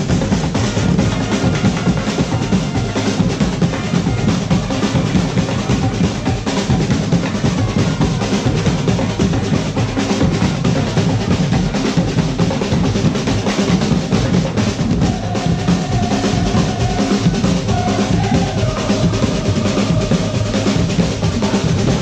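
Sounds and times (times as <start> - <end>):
fast drum rhythm: 0.0 - 22.0.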